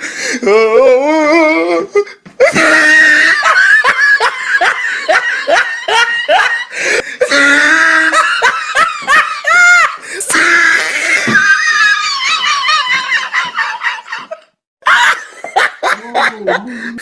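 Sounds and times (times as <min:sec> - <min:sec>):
person laughing hard: 0:02.4 - 0:17.0.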